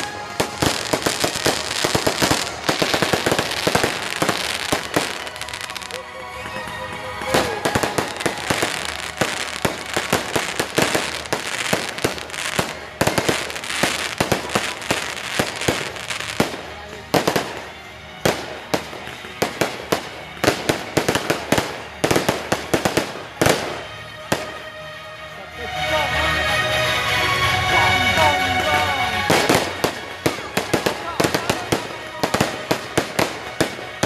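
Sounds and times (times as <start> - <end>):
fireworks bangs and crackling: 0.0 - 24.7, 28.1 - 34.0
music playing: 0.0 - 34.0.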